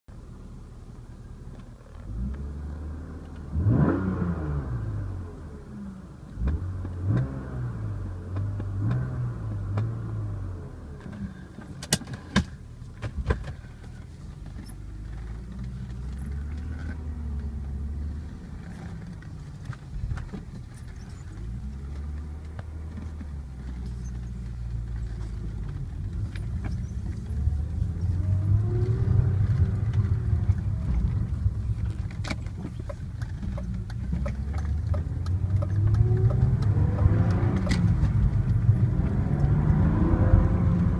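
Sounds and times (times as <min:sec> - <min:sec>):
car engine running: 0:04.6 - 0:40.9.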